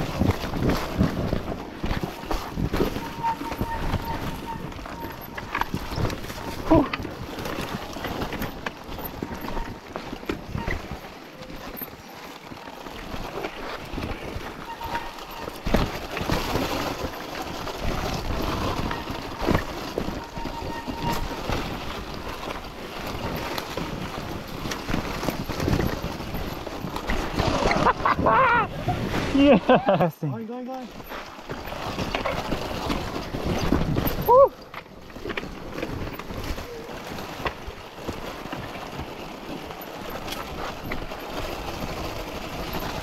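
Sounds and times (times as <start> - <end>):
electric dirt bike rushing: 0.0 - 29.5, 30.9 - 43.0.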